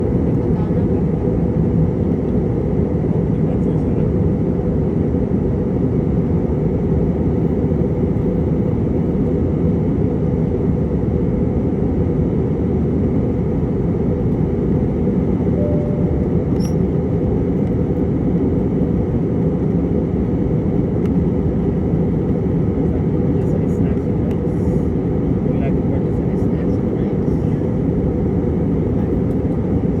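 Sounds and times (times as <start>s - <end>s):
jet engine rumble: 0.0s - 30.0s.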